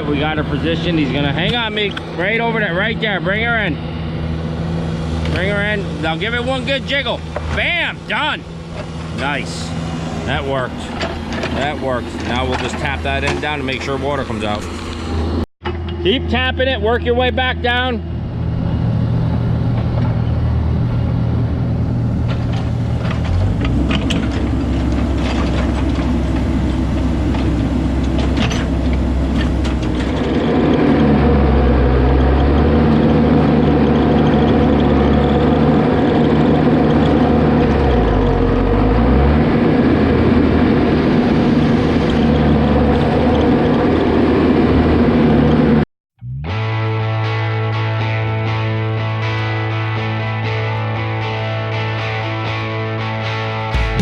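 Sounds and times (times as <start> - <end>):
excavator diesel engine under load: 0.0 - 46.4.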